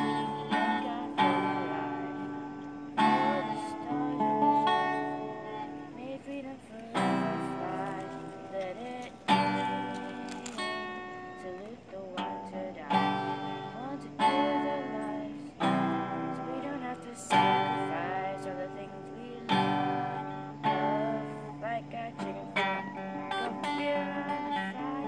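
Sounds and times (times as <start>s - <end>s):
acoustic guitar strumming: 0.0s - 25.0s
boy singing: 0.0s - 25.0s.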